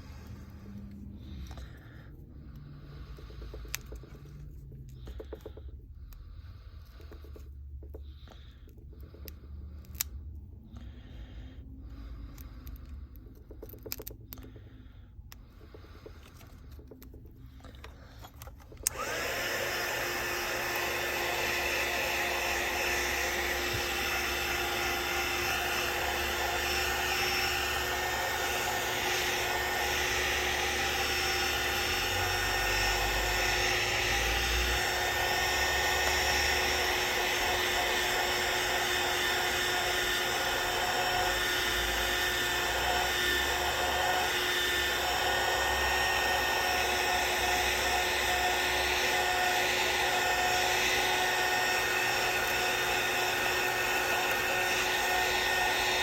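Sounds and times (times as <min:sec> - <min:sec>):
heat gun fan whine and airflow: 0:00.0 - 0:56.0.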